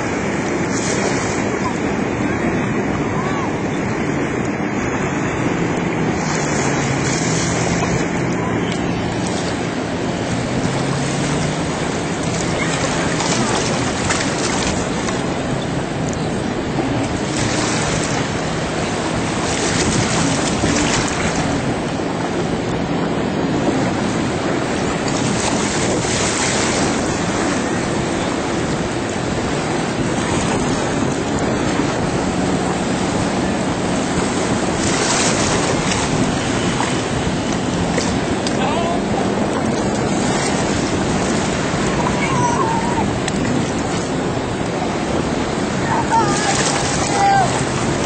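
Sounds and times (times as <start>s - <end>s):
churning water spray: 0.0s - 48.0s
jet ski engines droning: 0.0s - 48.0s
wind on microphone: 0.0s - 48.0s.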